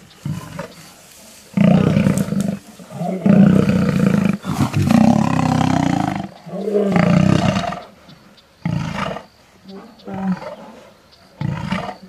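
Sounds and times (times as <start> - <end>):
lions growling and roaring: 0.0 - 0.9, 1.5 - 8.0, 8.6 - 12.0.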